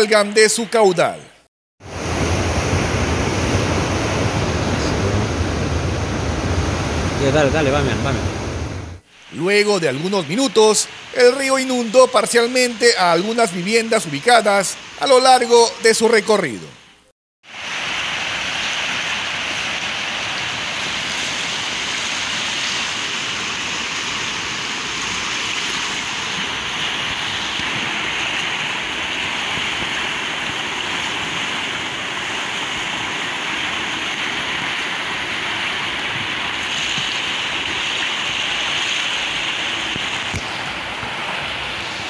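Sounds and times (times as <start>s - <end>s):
river rushing: 1.8s - 16.2s, 17.5s - 42.0s.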